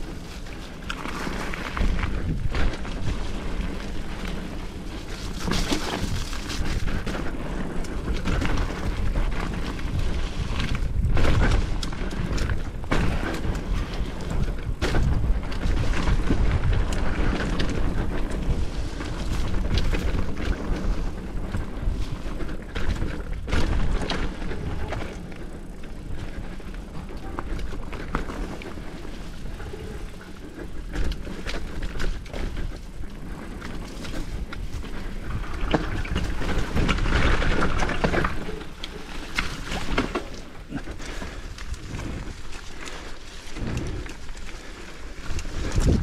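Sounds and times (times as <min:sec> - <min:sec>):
bike knocking and rattling: 0:00.0 - 0:46.0
wind and trail rumble: 0:00.0 - 0:46.0.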